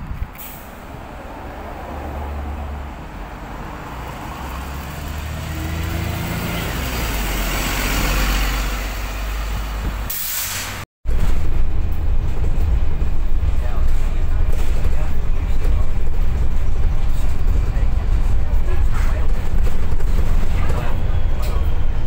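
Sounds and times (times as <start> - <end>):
bus engine accelerating: 0.0 - 22.0.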